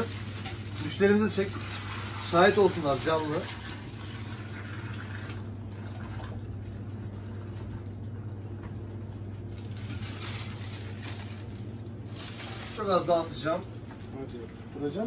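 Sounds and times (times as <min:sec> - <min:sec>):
water running into plastic bag: 0:00.0 - 0:08.0, 0:09.4 - 0:15.0.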